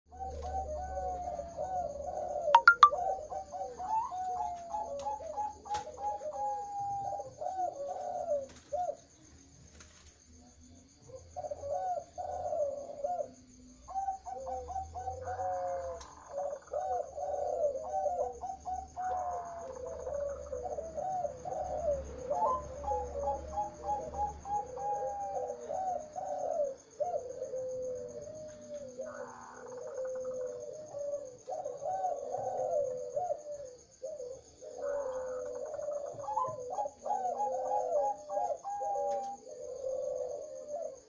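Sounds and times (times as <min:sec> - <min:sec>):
doves cooing: 0:00.1 - 0:41.0.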